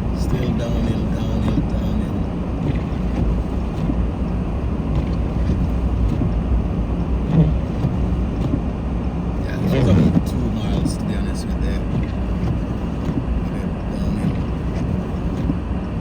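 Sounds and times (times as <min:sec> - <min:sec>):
vehicle driving from inside: 0:00.0 - 0:16.0.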